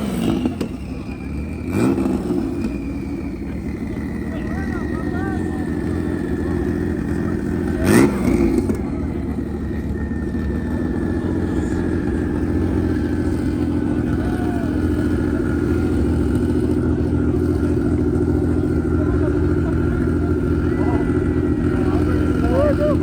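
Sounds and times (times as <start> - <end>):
vehicle engines running: 0.0 - 23.0.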